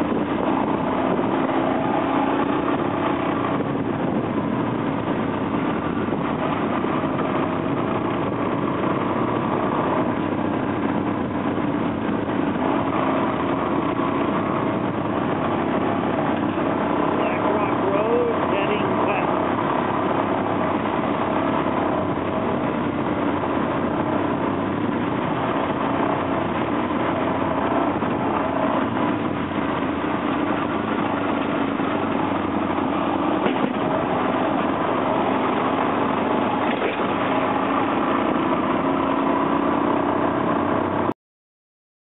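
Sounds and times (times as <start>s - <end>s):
ride noise: 0.0s - 41.1s.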